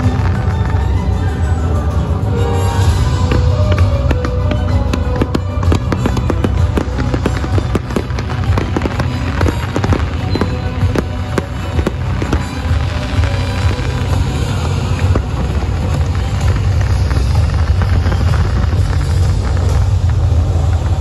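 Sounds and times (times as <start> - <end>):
fireworks bangs and crackles: 0.0 - 21.0
loud music: 0.0 - 21.0.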